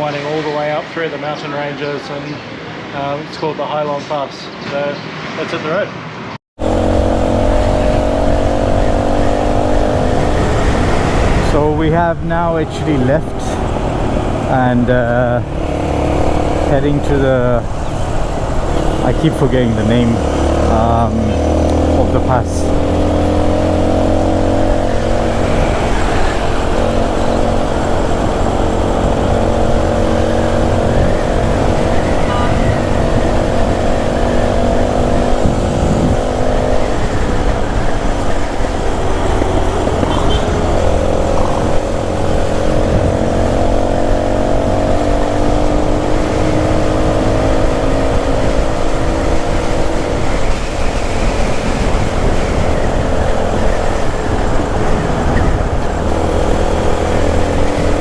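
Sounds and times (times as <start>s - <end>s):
low wind rumble: 6.6s - 58.0s
motorbike engine running: 6.6s - 58.0s.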